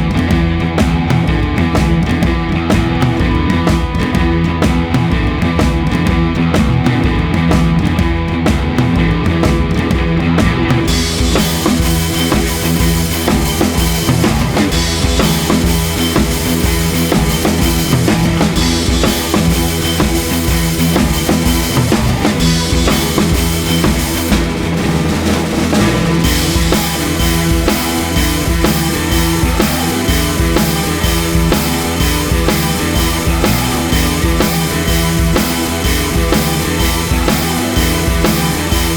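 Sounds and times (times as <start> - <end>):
bass: 0.0 - 38.9
drum beat: 0.0 - 38.9
rock music: 0.0 - 38.9.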